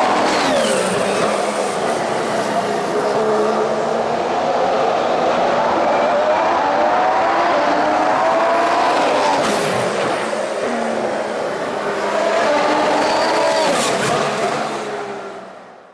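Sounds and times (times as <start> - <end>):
racing car engine accelerating: 0.0 - 15.7.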